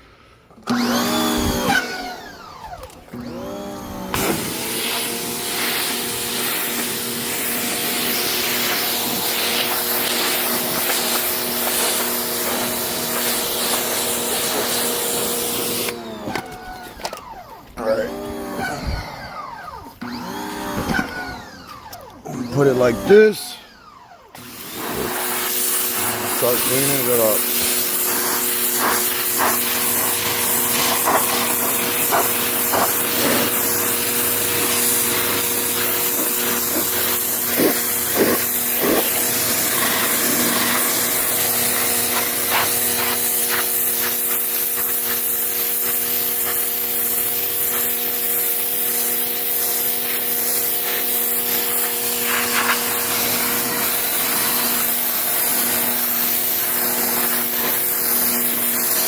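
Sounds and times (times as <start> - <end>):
pump humming: 0.7 - 49.5
pressure washer jet hissing: 3.2 - 16.0, 22.4 - 23.6, 24.4 - 59.0.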